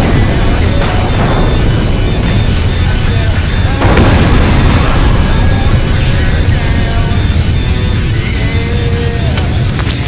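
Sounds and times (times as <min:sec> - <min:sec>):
low rumble of explosion: 0:00.0 - 0:08.7
loud soundtrack music: 0:00.0 - 0:10.0.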